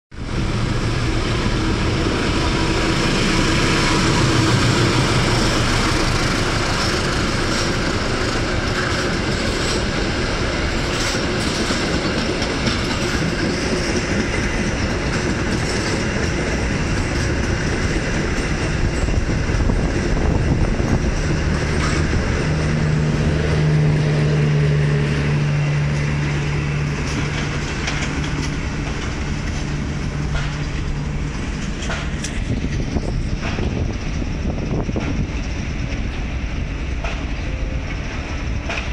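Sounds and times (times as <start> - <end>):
diesel locomotive passing: 0.1 - 38.9
train wheels rumbling on rails: 0.1 - 38.9.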